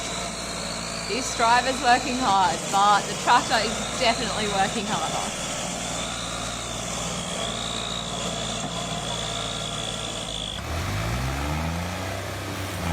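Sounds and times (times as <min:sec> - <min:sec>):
engine revving: 0:00.0 - 0:12.9
tractor engine under load whining: 0:00.0 - 0:12.9.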